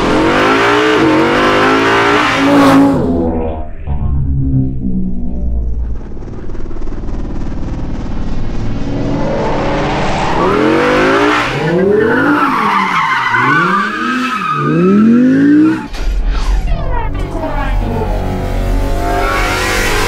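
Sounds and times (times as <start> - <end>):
car engine revving: 0.0 - 16.0, 16.7 - 20.0.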